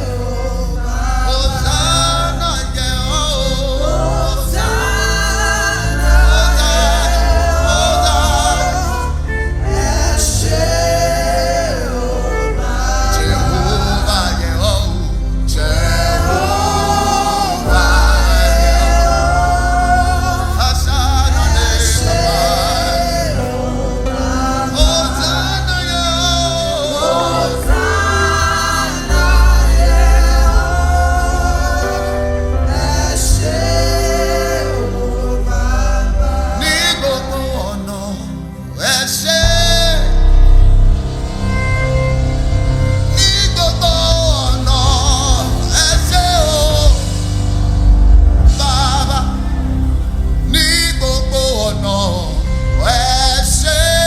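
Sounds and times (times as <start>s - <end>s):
deep bass line: 0.0s - 54.0s
group of voices singing: 0.0s - 54.0s
held instrumental chords: 0.0s - 54.0s.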